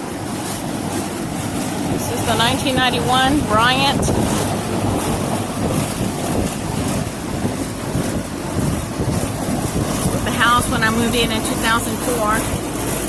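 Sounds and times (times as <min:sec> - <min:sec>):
air conditioner low hum: 0:00.0 - 0:13.0
fan rushing air: 0:00.0 - 0:13.0.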